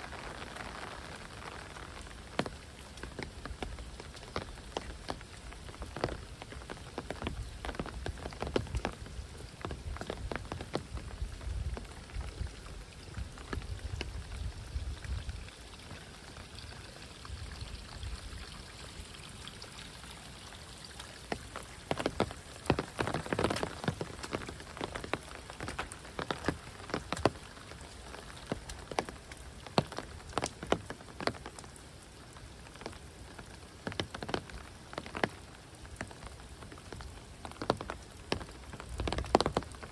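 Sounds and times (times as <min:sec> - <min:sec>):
heavy rain falling: 0:00.0 - 0:39.9
large raindrops tapping: 0:00.0 - 0:39.9.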